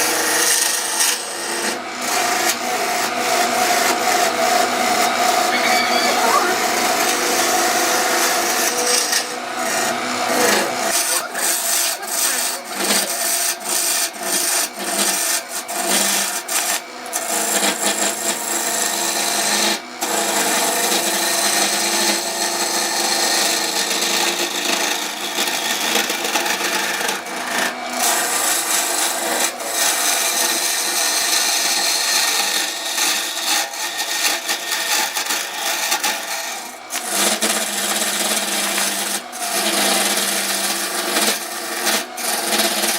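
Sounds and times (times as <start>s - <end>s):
lathe motor hum: 0.0s - 42.9s
tool scraping spinning wood: 0.0s - 42.9s.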